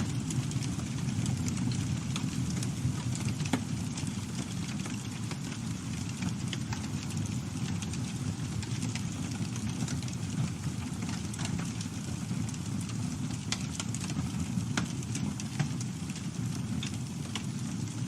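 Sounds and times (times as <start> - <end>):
campfire flames rumbling: 0.0 - 18.0
wood crackling and popping: 0.0 - 18.0.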